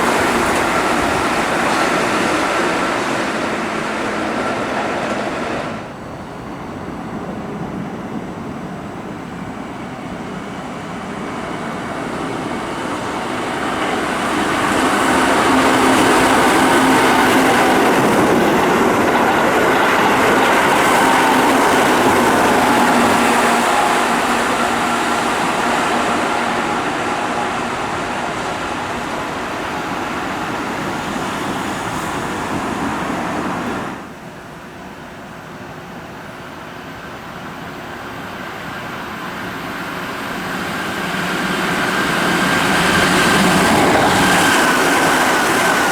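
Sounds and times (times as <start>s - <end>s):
electric train passing: 0.0s - 45.9s.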